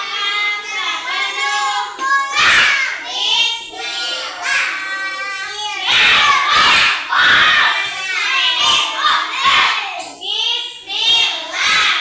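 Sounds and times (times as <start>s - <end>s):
children shouting and chanting: 0.0s - 12.0s.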